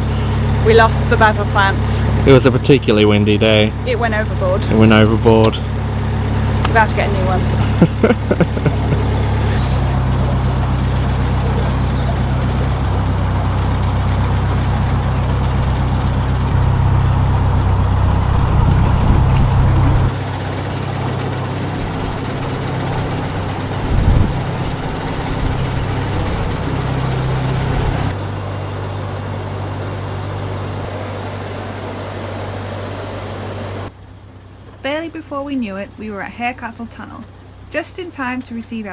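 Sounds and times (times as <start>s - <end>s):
diesel engine running at low revs: 0.0s - 38.9s.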